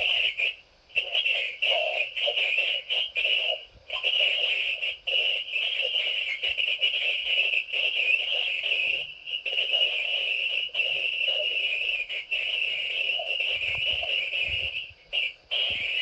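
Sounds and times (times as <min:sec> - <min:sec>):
hissy buzzing foghorn drone: 0:00.0 - 0:16.0.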